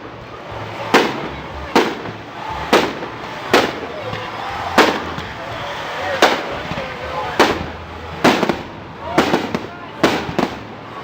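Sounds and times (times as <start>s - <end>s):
faint voices: 0.0s - 11.0s
fireworks bangs: 0.0s - 11.0s.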